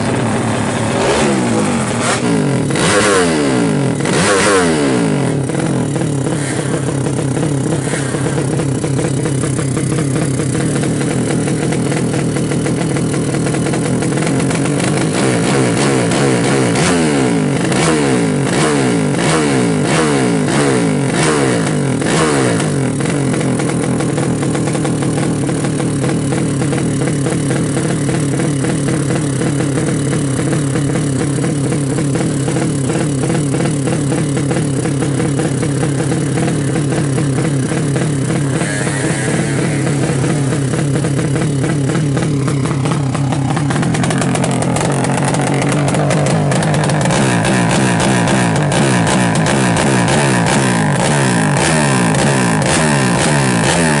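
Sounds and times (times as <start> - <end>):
motorcycle engine revving and idling: 0.0 - 54.0.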